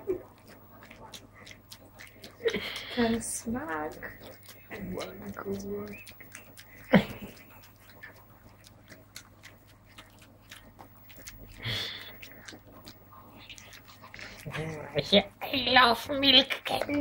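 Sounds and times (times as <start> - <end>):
dog chewing with wet smacks: 0.0 - 17.0
dog breathing: 0.5 - 14.7.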